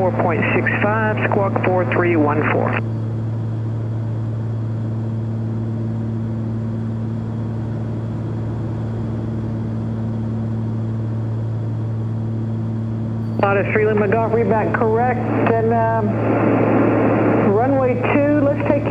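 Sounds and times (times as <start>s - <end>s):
aircraft piston engines droning: 0.0s - 18.9s.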